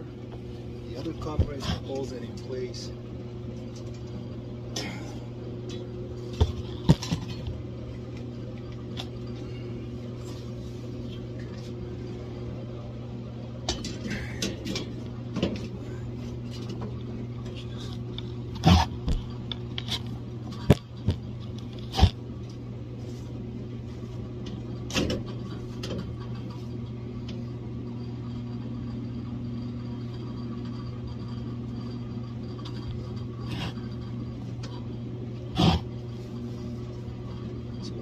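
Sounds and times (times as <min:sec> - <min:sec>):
furnace blower humming: 0:00.0 - 0:38.0.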